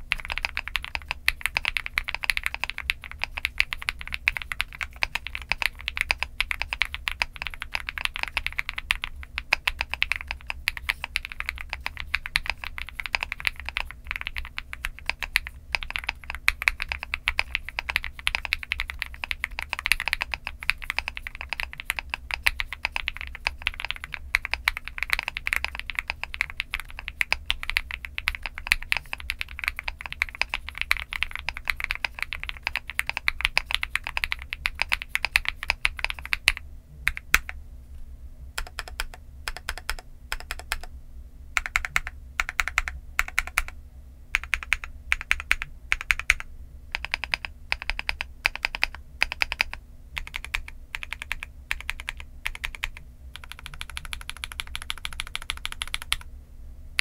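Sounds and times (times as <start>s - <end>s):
mechanical keyboard typing: 0.0s - 37.6s, 38.6s - 40.9s, 41.6s - 56.3s.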